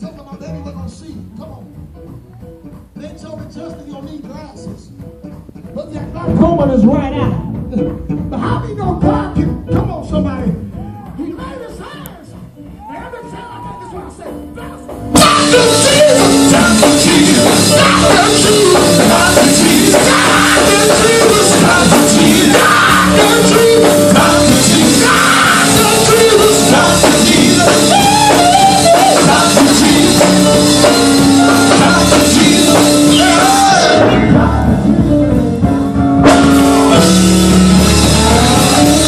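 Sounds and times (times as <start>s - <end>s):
live gospel band with singing: 0.0s - 39.0s.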